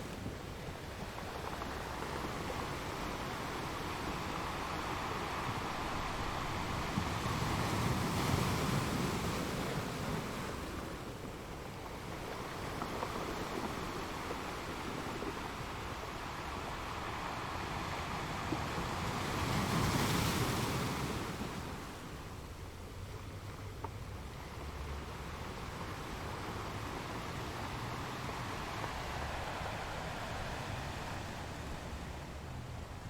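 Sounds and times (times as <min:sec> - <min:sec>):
ocean waves washing on shore: 0:00.0 - 0:33.0.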